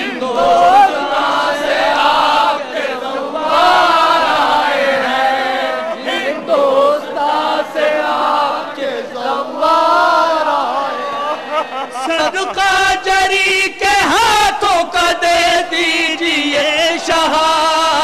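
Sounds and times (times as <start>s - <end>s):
crowd of men chanting a lament: 0.0s - 18.0s.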